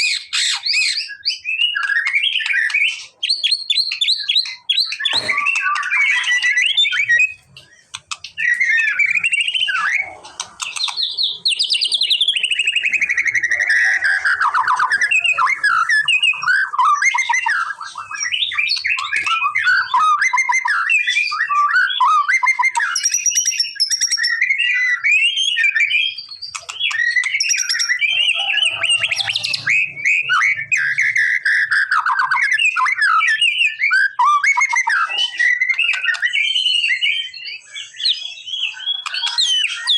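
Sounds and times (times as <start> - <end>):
bird singing whistles and warbles: 0.0 - 39.9.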